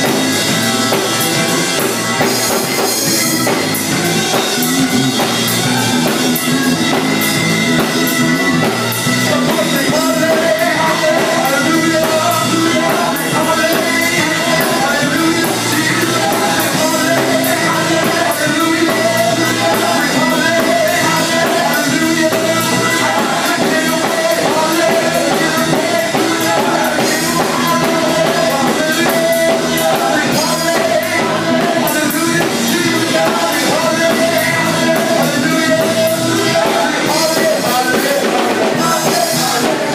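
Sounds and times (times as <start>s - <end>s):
gospel group singing: 0.0s - 39.9s
instrumental backing: 0.0s - 39.9s.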